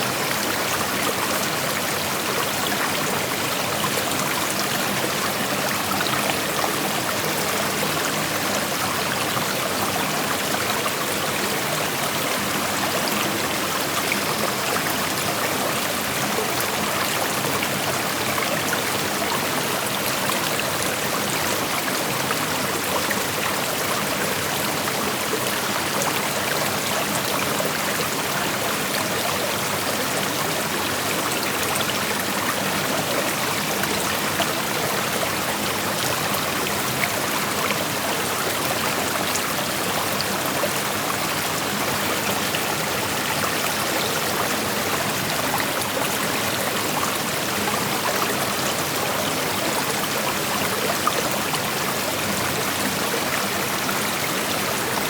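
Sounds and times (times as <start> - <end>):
creek water rushing over stones: 0.0 - 55.0.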